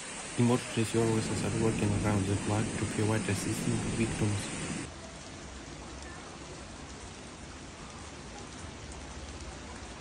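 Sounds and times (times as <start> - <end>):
floodwater running: 0.0 - 10.0
heavy rain falling: 0.0 - 10.0.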